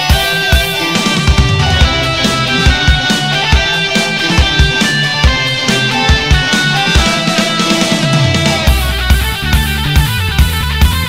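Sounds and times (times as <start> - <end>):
drum beat: 0.0 - 11.0
rock guitar: 0.0 - 11.0.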